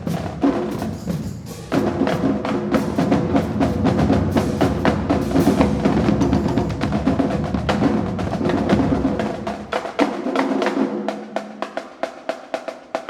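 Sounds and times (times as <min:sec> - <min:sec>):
marching drumline cadence: 0:00.0 - 0:13.0.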